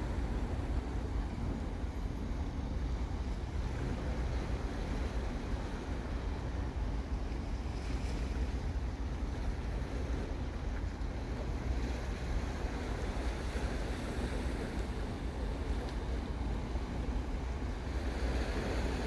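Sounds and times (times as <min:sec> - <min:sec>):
sea waves against rocks: 0:00.0 - 0:19.0.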